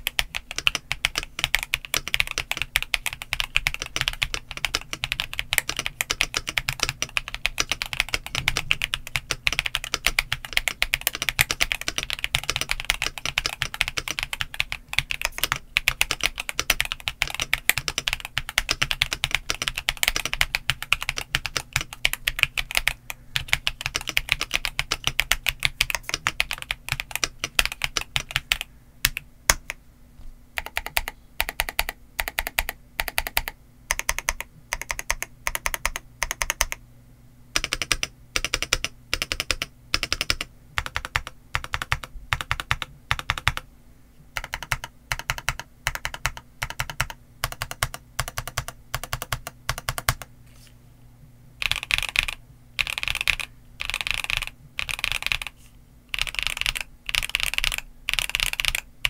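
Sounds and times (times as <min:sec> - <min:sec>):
mechanical keyboard typing: 0:00.0 - 0:29.8, 0:30.6 - 0:36.8, 0:37.6 - 0:43.6, 0:44.4 - 0:50.3, 0:51.6 - 0:58.9.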